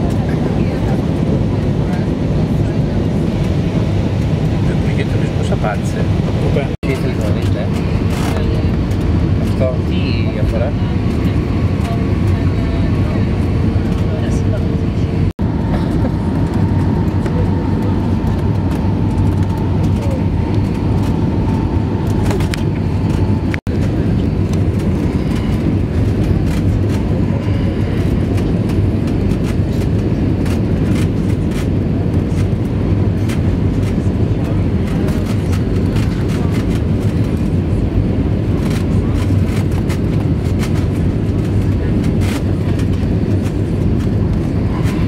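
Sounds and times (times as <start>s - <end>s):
engine rumble: 0.0s - 45.0s.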